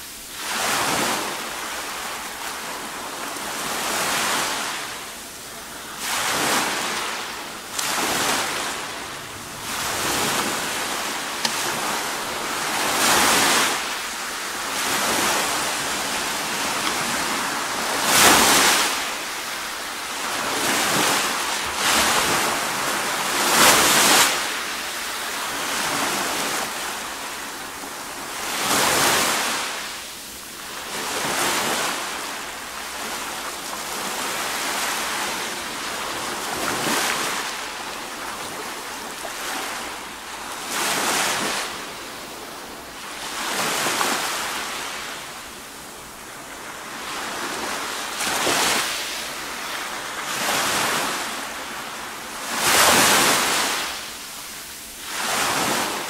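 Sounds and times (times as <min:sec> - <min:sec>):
waves washing on pebble beach: 0:00.0 - 0:56.0.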